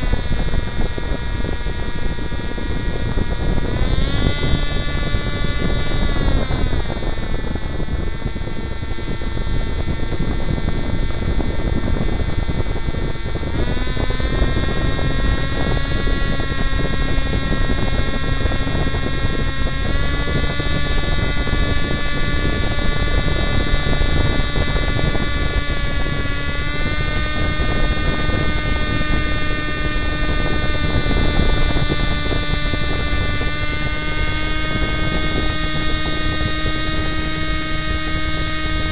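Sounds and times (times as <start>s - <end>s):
paraglider engine and propeller: 0.0s - 38.9s.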